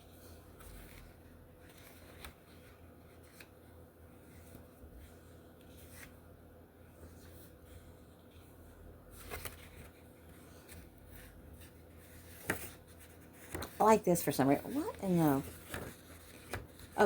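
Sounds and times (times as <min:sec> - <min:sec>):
low room hum: 0:00.0 - 0:17.0
paper pages rustling: 0:00.0 - 0:17.0
soft clicks of pages: 0:00.2 - 0:06.2, 0:07.0 - 0:13.8, 0:15.4 - 0:17.0.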